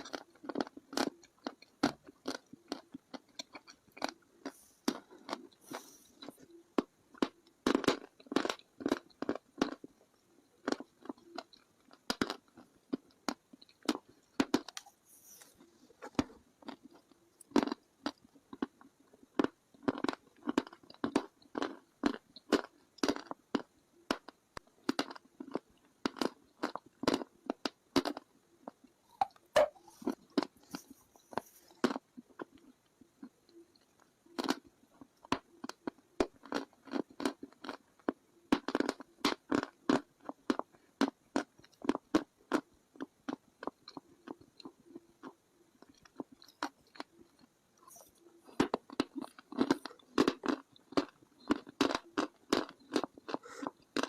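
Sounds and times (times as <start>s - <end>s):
person chewing brittle crunches: 0.0s - 54.0s.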